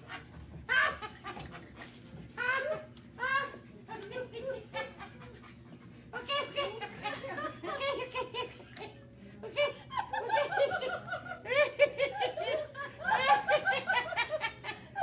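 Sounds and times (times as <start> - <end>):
people laughing hard: 0.0 - 15.0.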